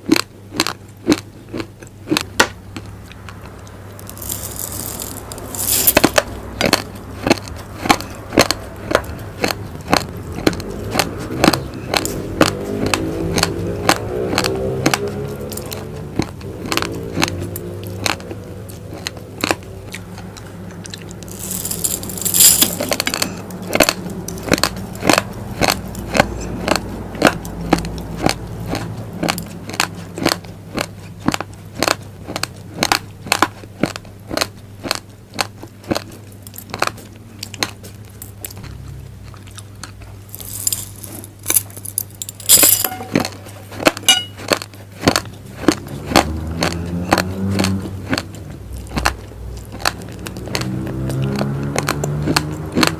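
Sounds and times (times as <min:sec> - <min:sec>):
chewing crunchy rice grains: 0:00.0 - 0:52.9.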